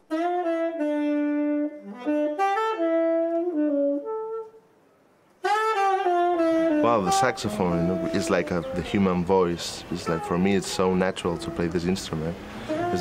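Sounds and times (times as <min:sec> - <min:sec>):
saxophone melody: 0:00.0 - 0:04.8, 0:05.4 - 0:13.0.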